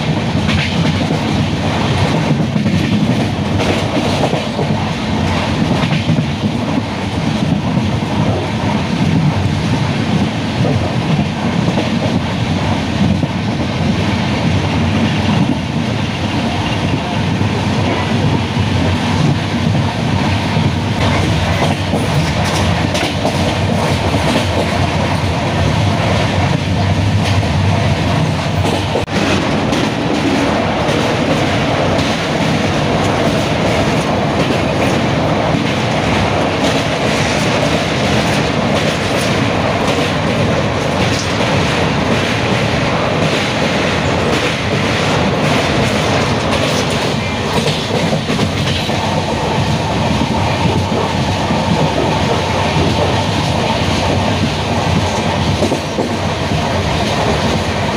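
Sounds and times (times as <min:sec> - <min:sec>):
train rumble and rush: 0:00.0 - 0:57.9.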